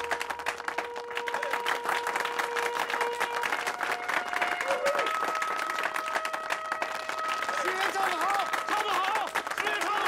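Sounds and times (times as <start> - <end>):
music with long held notes: 0.0 - 9.5
crowd clapping: 0.0 - 10.0.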